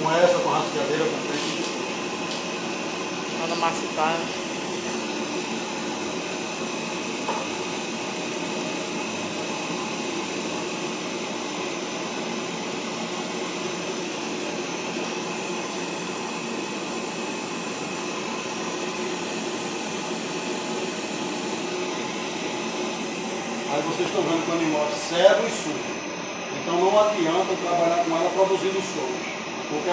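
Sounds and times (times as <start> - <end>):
dryer blowing air: 0.0 - 29.9
faint steady whine: 0.0 - 29.9.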